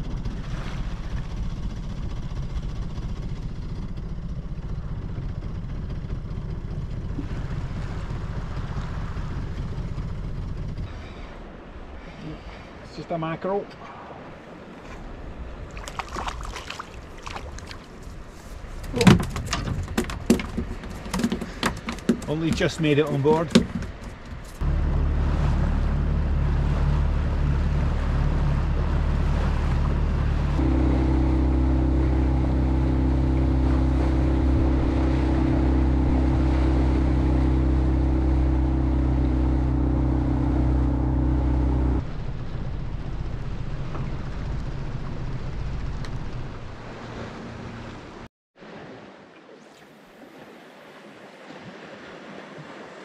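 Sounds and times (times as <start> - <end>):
outboard motor running: 0.0 - 12.8, 14.9 - 48.3
water rushing along hull: 0.0 - 53.0.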